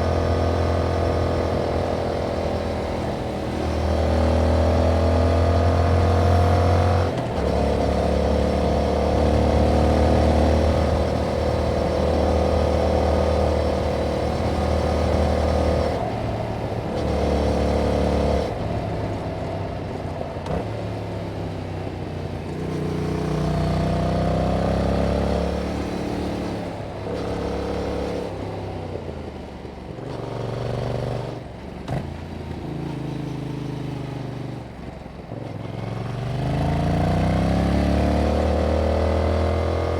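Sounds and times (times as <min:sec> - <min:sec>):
motorcycle engine revving: 0:00.0 - 0:29.0, 0:35.5 - 0:39.9.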